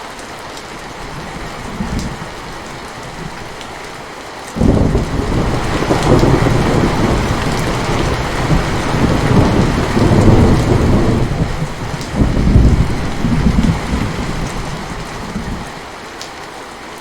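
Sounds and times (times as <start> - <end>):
steady rain falling: 0.0 - 17.0
rumble of thunder: 1.0 - 3.9, 4.6 - 15.8.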